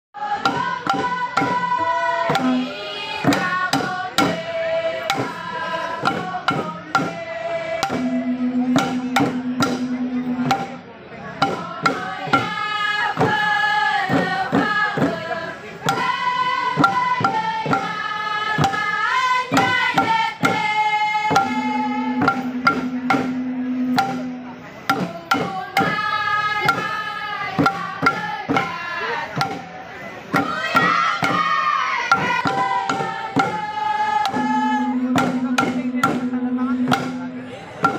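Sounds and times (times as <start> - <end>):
voices singing together: 0.2 - 37.9
hand drums beating: 0.4 - 37.9.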